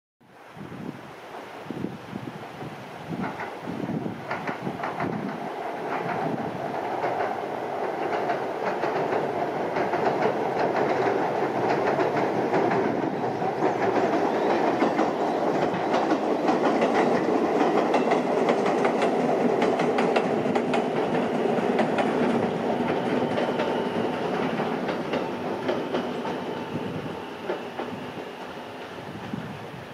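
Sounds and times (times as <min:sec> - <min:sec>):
train rumbling on bridge: 0:00.4 - 0:29.9
wheels clacking over rail joints: 0:03.2 - 0:29.6.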